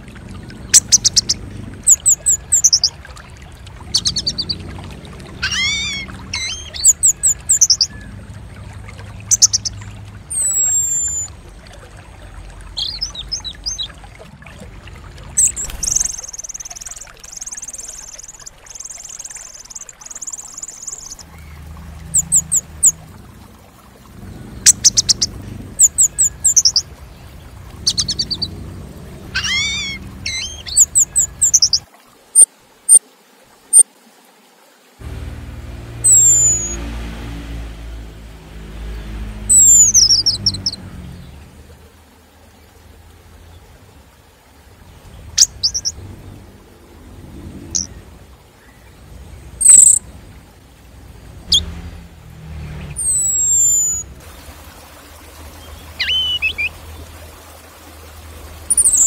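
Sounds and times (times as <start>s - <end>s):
songbird chirps and trills: 0.0s - 33.0s, 35.1s - 54.2s, 54.8s - 59.0s.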